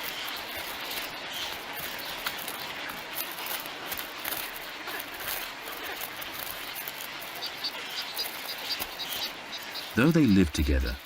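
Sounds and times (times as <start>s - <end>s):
waterbird colony calling: 0.0s - 11.0s.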